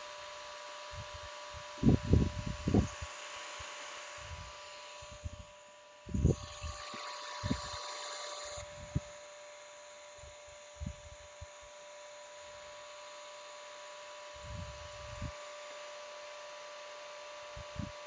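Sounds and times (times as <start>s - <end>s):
floor cleaner motor whine: 0.0s - 18.0s.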